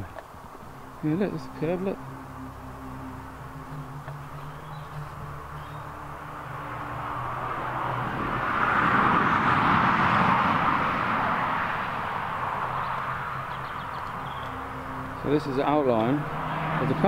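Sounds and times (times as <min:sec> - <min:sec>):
vehicle passing on road: 0:00.0 - 0:17.0.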